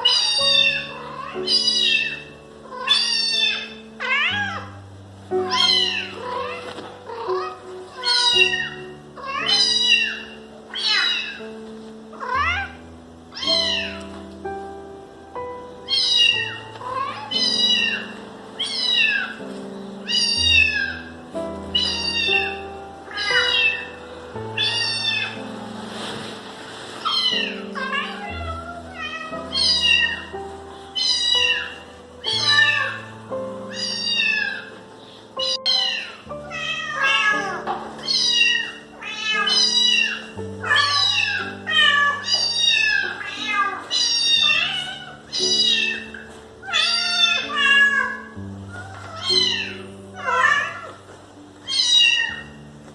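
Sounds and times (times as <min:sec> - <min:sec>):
cat meowing: 0:00.0 - 0:04.8, 0:05.4 - 0:11.5, 0:12.1 - 0:14.2, 0:15.8 - 0:25.4, 0:27.0 - 0:52.7
background music with held notes: 0:00.0 - 0:52.9.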